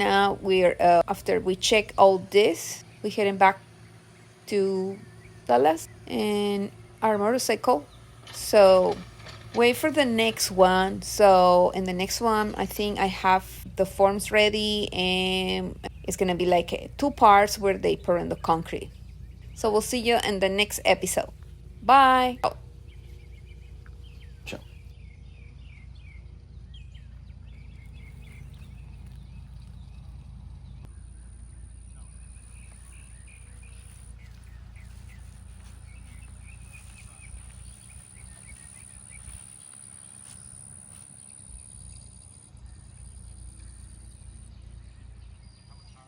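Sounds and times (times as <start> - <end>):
birds chirping: 0.0 - 46.0
steady low rumble: 0.0 - 46.0.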